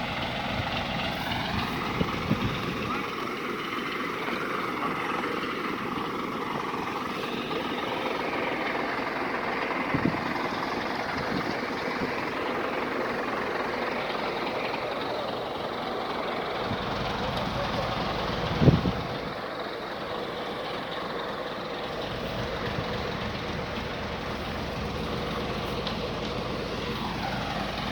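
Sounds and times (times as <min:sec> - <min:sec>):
diesel truck engine running: 0:00.0 - 0:27.9.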